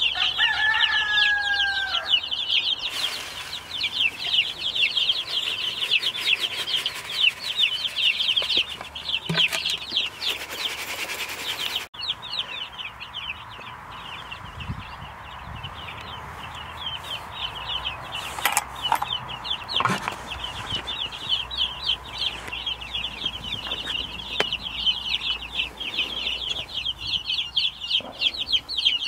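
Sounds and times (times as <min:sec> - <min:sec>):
baby chicks peeping: 0:00.0 - 0:29.0.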